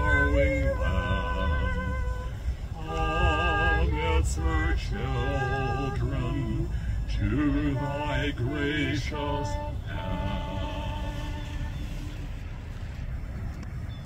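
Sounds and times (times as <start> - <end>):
man and woman singing: 0.0 - 12.3
low rumble: 0.0 - 14.0.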